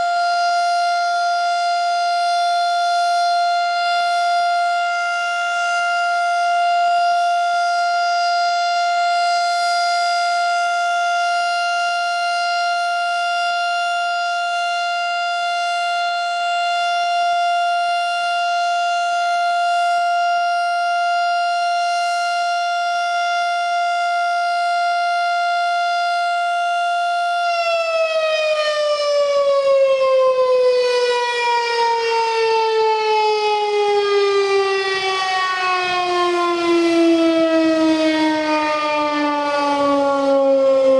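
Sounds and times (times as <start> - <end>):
mechanical warning siren: 0.0 - 40.9.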